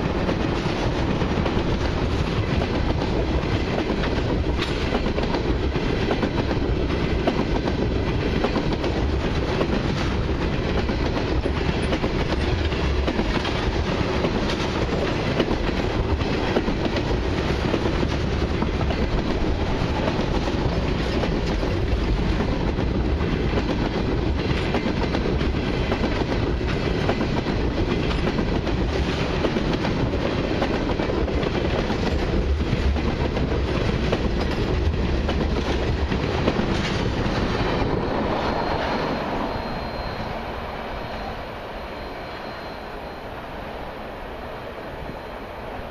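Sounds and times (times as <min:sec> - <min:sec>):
steel wheels clattering on rails: 0:00.0 - 0:41.1
freight train rumbling past: 0:00.0 - 0:45.9.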